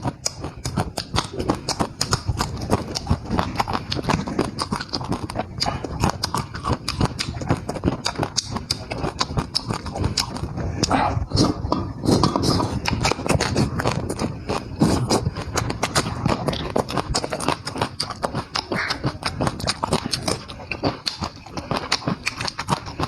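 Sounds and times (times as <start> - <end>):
rapid cooking clicks and knocks: 0.0 - 10.9, 11.6 - 23.0.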